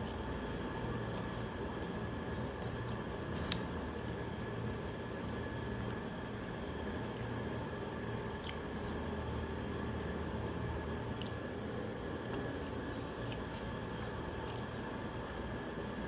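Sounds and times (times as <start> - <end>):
person chewing food: 0.0 - 10.1, 10.8 - 16.0
steady background hum: 0.0 - 16.0.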